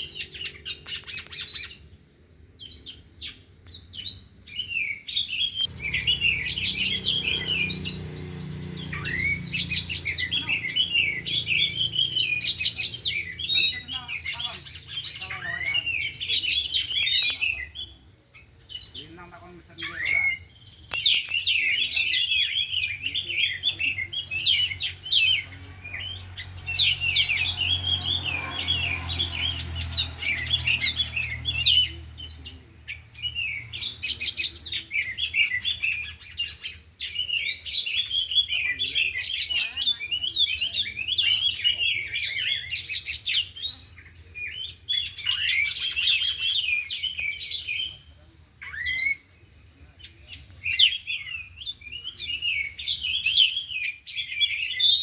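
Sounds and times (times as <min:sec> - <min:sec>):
birds singing chirps and trills: 0:00.0 - 0:55.0.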